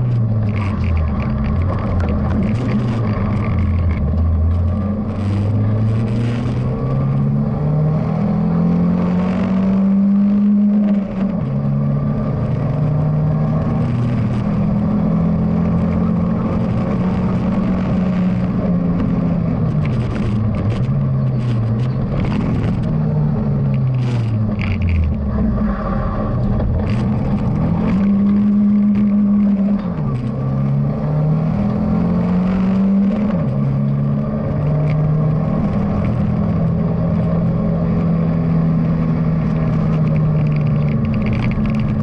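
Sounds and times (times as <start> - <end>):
car engine from inside cabin: 0.0 - 42.0.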